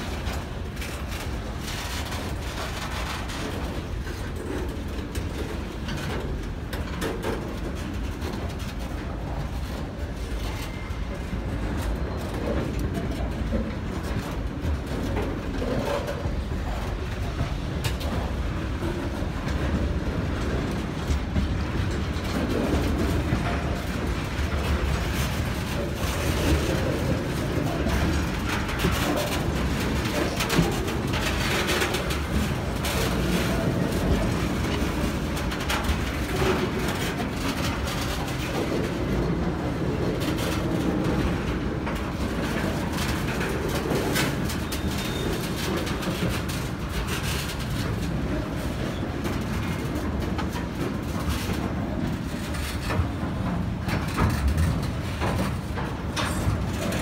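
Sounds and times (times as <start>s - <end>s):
train wheels rumbling on rails: 0.0s - 57.0s
wheels clicking over rail joints: 0.0s - 57.0s.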